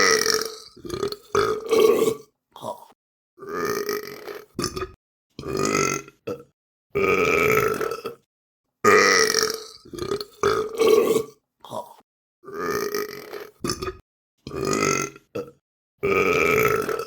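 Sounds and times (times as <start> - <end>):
person burping: 0.0 - 8.3, 8.9 - 17.0.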